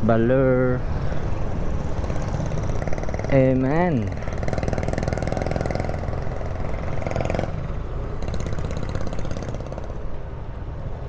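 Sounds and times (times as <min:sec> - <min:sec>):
motorcycle engine idling: 0:01.8 - 0:11.0.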